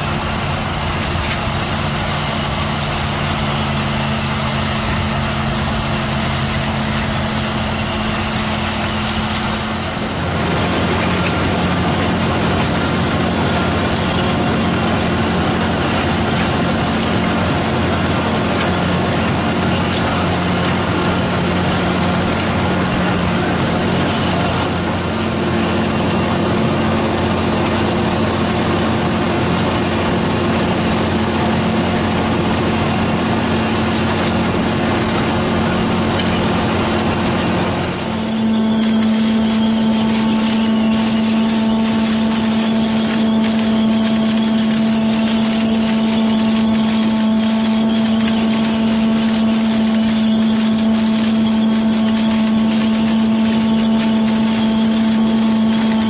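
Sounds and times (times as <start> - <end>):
harvester machine hum: 0.0 - 56.0.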